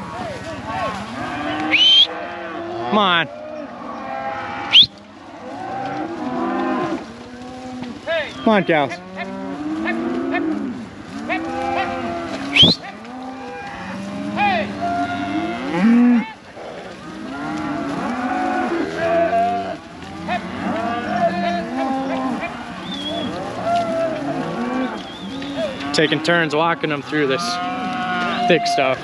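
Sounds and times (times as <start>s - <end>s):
cattle mooing: 0.6s - 29.0s.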